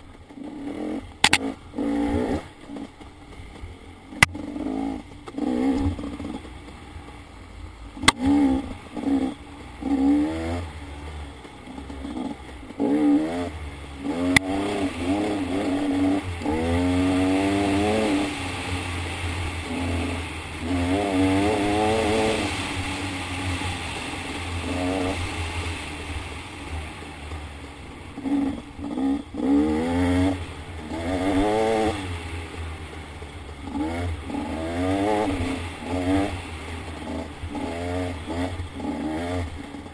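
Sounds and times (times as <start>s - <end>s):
clattering of bike riding: 0.0s - 39.9s
dirt bike engine revving: 0.0s - 39.9s.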